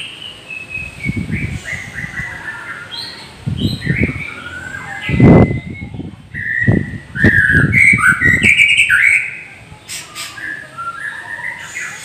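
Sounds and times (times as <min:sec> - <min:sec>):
bird singing whistled phrases: 0:00.0 - 0:12.0.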